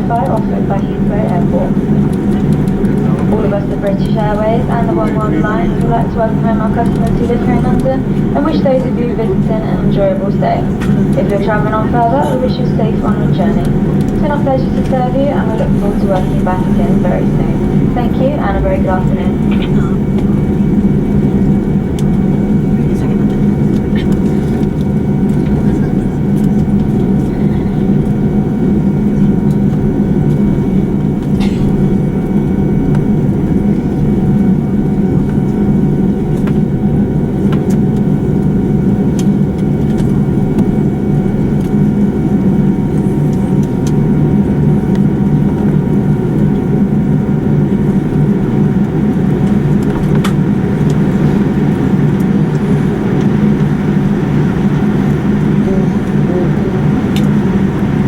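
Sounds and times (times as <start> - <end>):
low cabin drone: 0.0 - 58.0.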